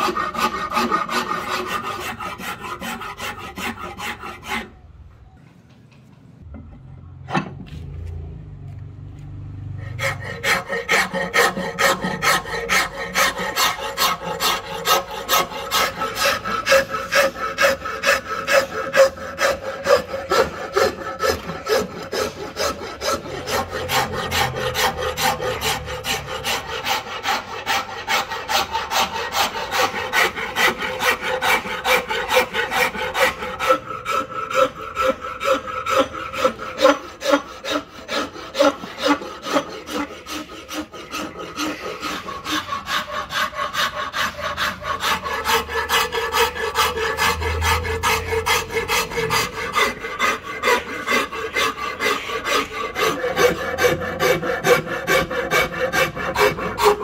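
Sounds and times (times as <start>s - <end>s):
hand rasp scraping wood: 0.0s - 4.8s, 9.8s - 57.0s.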